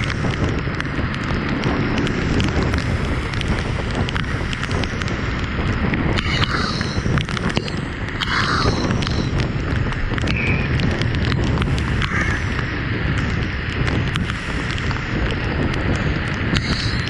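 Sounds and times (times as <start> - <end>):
steady rain falling: 0.0 - 17.0
wind rumbling on microphone: 0.0 - 17.0.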